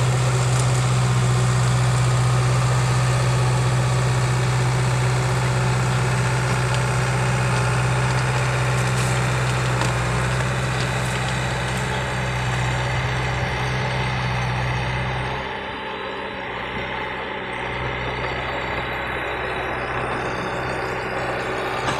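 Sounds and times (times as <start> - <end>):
bulldozer diesel engine running: 0.0 - 21.9.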